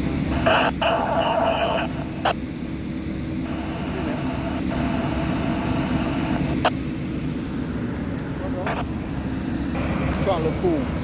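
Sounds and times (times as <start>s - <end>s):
fire truck engines idling: 0.0s - 11.0s.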